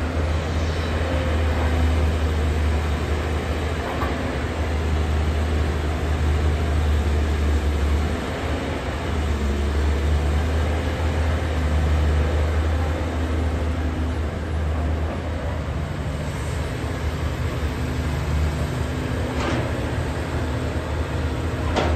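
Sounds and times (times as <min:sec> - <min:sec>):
excavator diesel engine droning: 0:00.0 - 0:21.9.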